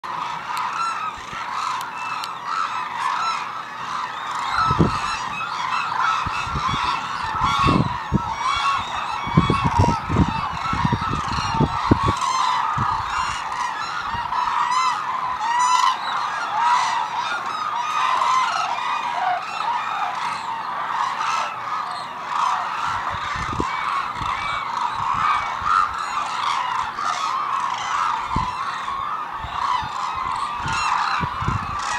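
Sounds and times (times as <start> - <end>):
cranes calling: 0.0 - 31.9.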